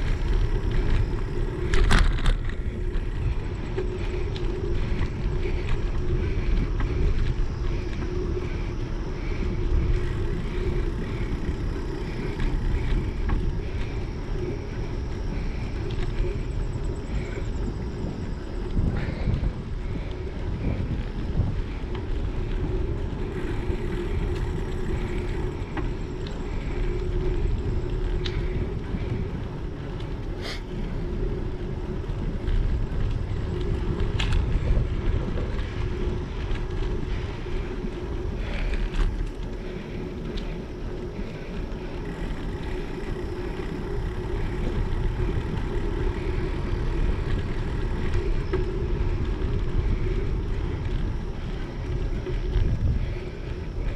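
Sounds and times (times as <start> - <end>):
tyres rolling on asphalt: 0.0 - 53.9
wind on microphone: 0.0 - 53.9.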